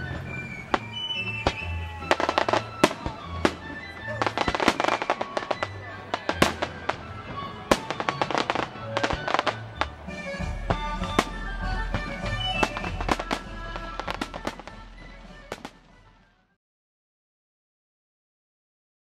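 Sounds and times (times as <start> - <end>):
fireworks bangs: 0.0 - 16.4
background music with bass: 0.0 - 16.5.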